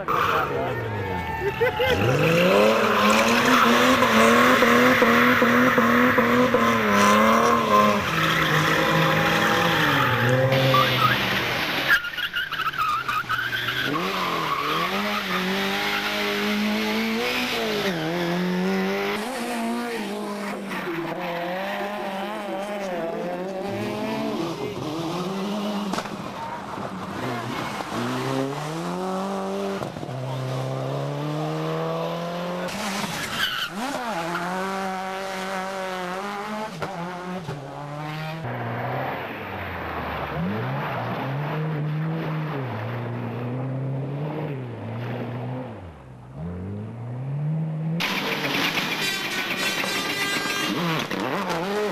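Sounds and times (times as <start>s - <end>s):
rally car engines revving: 0.0s - 51.9s
tyres skidding: 0.0s - 51.9s.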